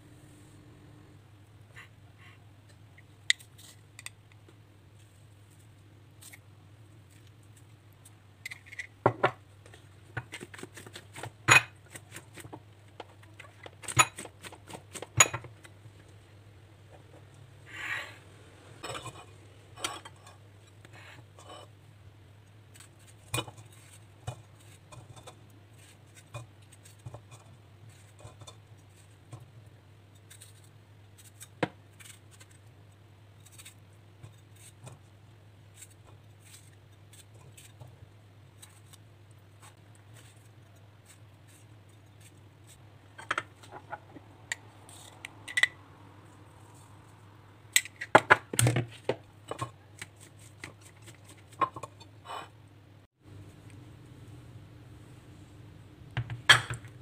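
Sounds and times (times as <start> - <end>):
steady low hum: 0.0 - 48.0, 51.8 - 57.0.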